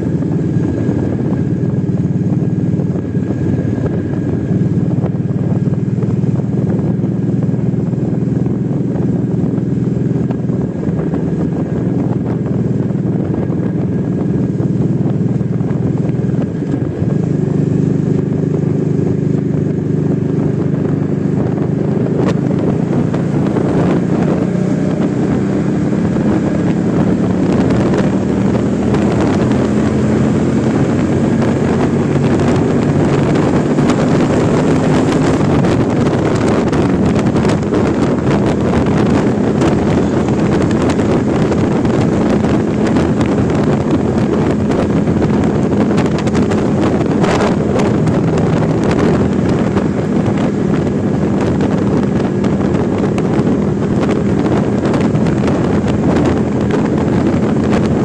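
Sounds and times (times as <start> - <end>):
motorcycle engine cruising: 0.0 - 58.0
rushing air noise: 0.0 - 58.0.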